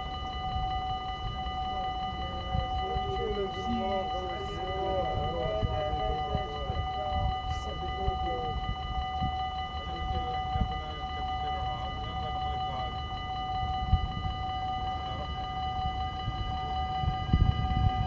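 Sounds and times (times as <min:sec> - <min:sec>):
level-crossing warning bell ringing: 0:00.0 - 0:18.0.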